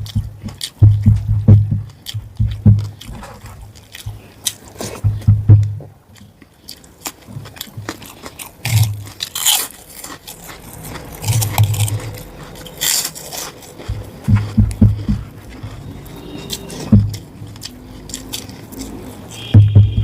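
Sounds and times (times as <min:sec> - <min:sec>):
crunches and wet mouth noises: 0:00.0 - 0:05.3, 0:06.1 - 0:19.5
person chewing food: 0:00.0 - 0:20.0.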